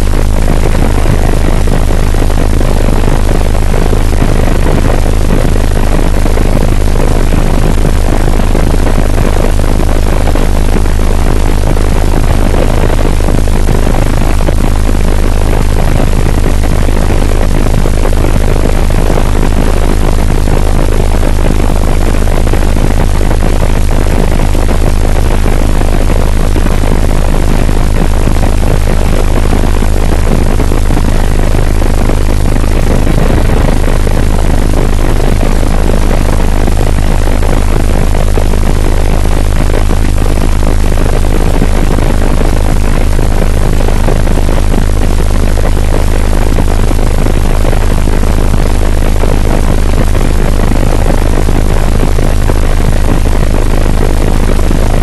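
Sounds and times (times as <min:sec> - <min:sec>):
constant low drone: 0:00.0 - 0:55.0.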